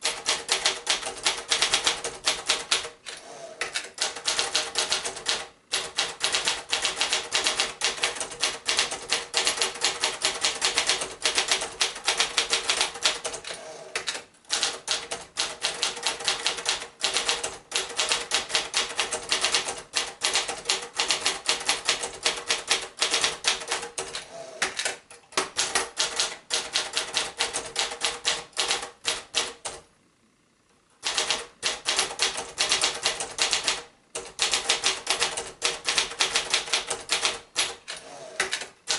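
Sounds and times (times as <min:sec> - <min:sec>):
typewriter key strikes: 0:00.0 - 0:02.9, 0:03.6 - 0:29.8, 0:31.0 - 0:38.9.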